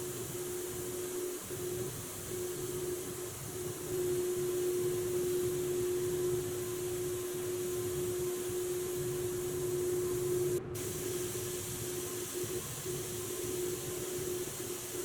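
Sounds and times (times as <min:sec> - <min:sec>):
hiss of air spraying: 0:00.0 - 0:15.0
mechanical hum: 0:00.0 - 0:15.0.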